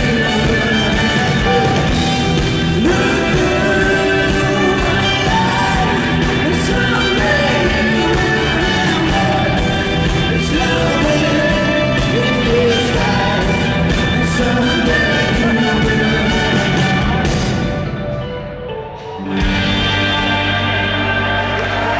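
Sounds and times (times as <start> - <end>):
live rock band playing: 0.0 - 21.9
person singing: 0.0 - 21.9.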